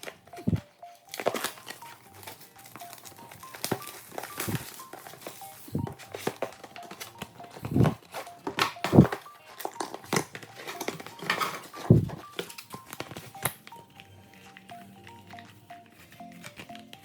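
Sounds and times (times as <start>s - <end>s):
cardboard and plastic crinkling: 0.0s - 17.0s.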